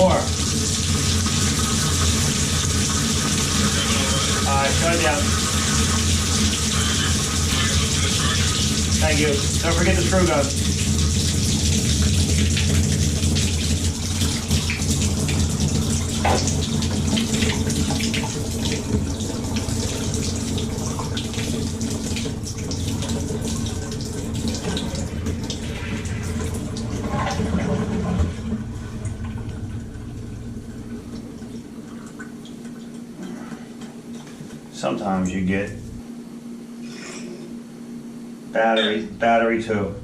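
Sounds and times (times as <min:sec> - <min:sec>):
water rushing into a tub: 0:00.0 - 0:33.0.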